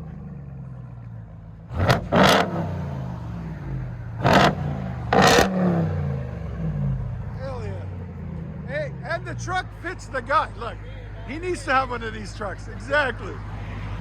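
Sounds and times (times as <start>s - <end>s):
truck engine idling and revving: 0.0s - 14.0s.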